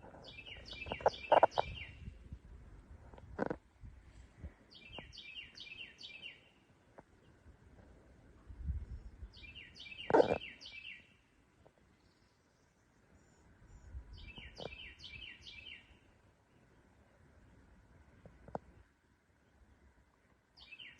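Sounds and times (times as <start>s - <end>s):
songbird singing: 0.0s - 2.3s, 4.5s - 20.9s.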